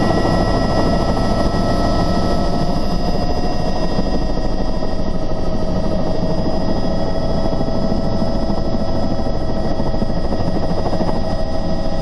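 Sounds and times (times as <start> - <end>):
helicopter engine whine: 0.0 - 12.0
helicopter rotor rumble: 0.0 - 12.0.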